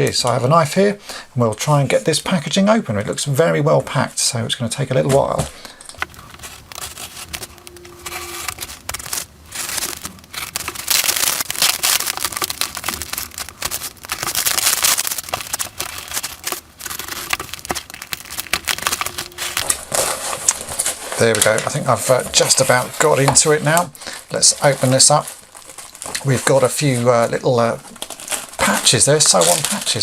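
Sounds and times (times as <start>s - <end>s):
cardboard packaging crackling: 5.0s - 30.0s.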